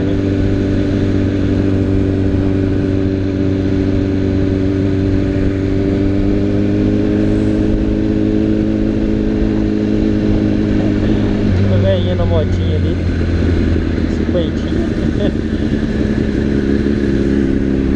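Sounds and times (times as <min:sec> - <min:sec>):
motorcycle engine cruising: 0:00.0 - 0:17.9.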